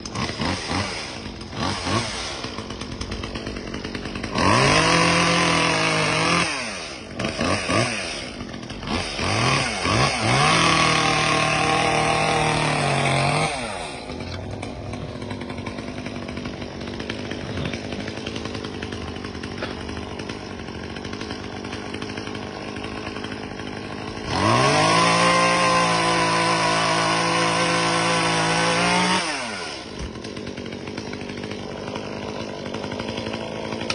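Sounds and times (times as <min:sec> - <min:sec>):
chainsaw revving and idling: 0:00.0 - 0:33.9.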